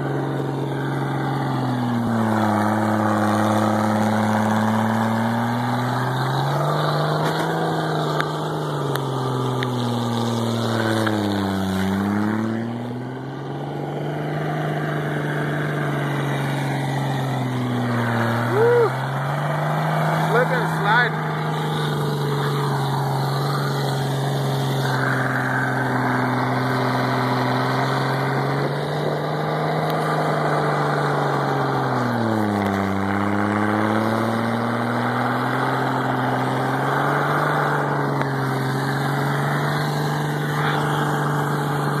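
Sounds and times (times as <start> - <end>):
snowcat engine running: 0.0 - 42.0.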